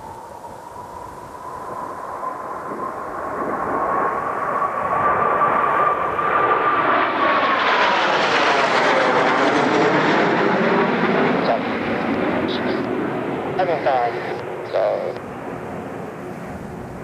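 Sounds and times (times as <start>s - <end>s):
jet engines passing by: 0.0s - 17.0s.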